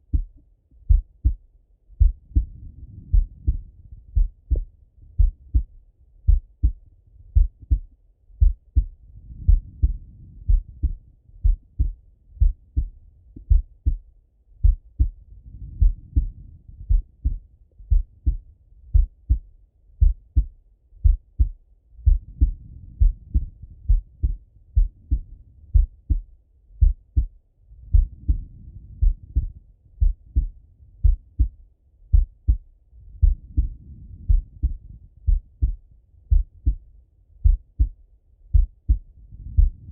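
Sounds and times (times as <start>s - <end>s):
heartbeat through stethoscope: 0.0s - 39.9s
soft breath sound: 1.2s - 14.0s, 14.6s - 19.0s, 21.9s - 36.8s, 38.6s - 39.9s.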